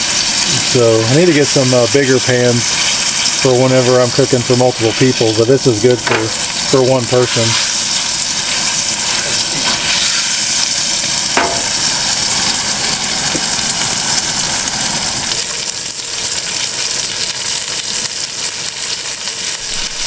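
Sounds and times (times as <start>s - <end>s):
burger patties sizzling in a pan: 0.0s - 20.0s.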